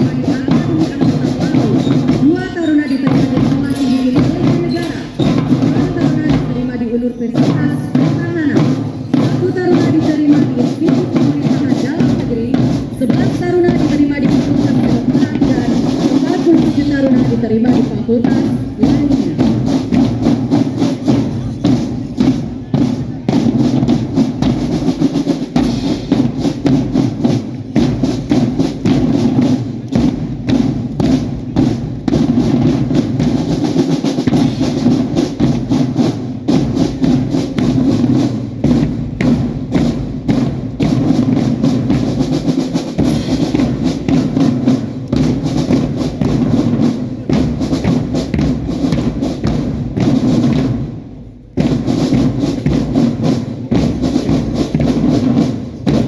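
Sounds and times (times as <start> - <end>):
band melody: 0.0 - 56.0
marching drums beating: 0.0 - 56.0.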